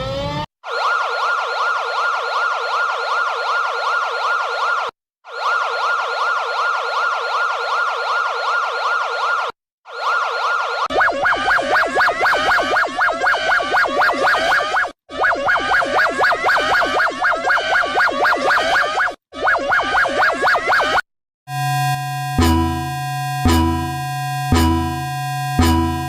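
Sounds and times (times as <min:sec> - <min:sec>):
choppy warbling siren: 0:00.0 - 0:26.0
emergency vehicle siren yelping: 0:00.0 - 0:26.0.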